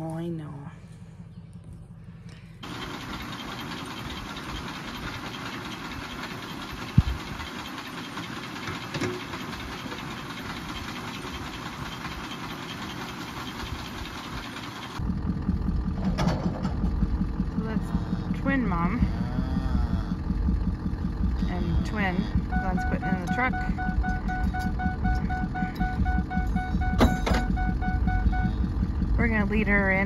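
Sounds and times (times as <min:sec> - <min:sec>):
deep engine rumble: 0:00.0 - 0:30.0
feed auger and engine running: 0:00.8 - 0:30.0.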